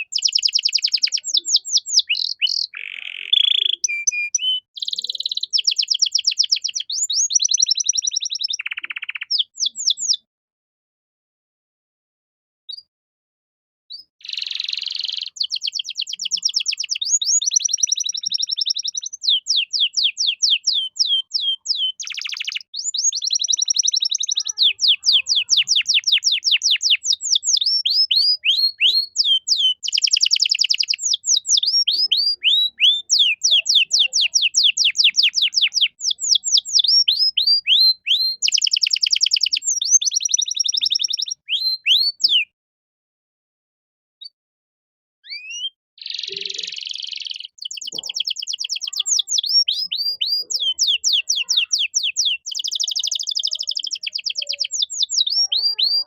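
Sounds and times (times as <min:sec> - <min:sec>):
canary singing: 0:00.0 - 0:10.3, 0:13.9 - 0:42.5, 0:45.2 - 0:56.0.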